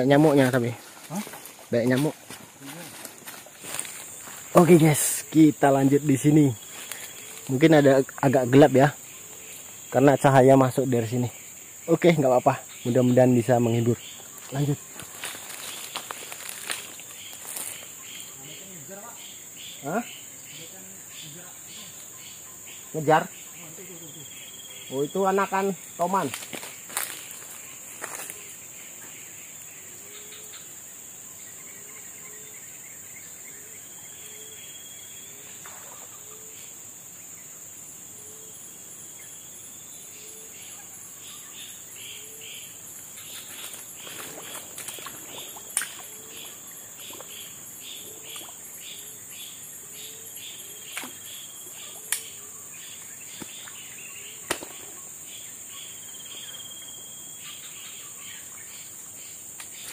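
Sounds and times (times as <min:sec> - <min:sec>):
insects droning high: 0:00.0 - 0:59.9.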